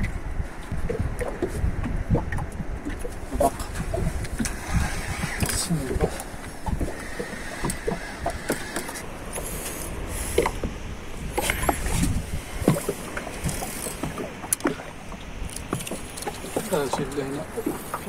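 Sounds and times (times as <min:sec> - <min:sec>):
boat engine rumbling: 0:00.0 - 0:18.0.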